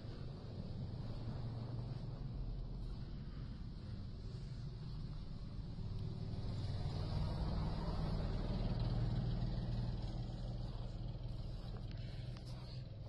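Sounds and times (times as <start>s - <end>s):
small car passing on snow road: 0.0s - 13.0s.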